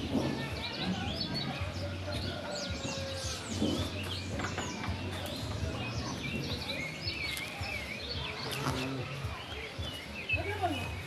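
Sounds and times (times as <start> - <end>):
birds chirping: 0.0 - 11.0
bird warbling song: 0.5 - 11.0.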